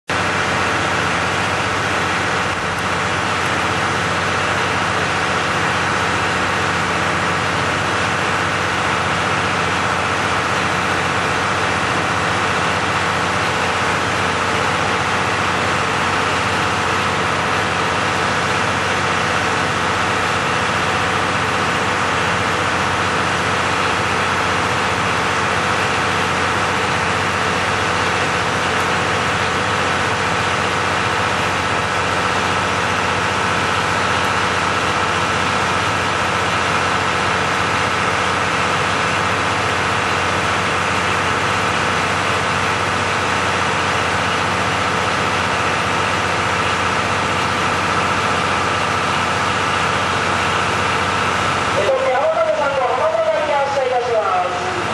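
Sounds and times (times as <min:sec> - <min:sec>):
diesel engines idling: 0:00.1 - 0:54.9.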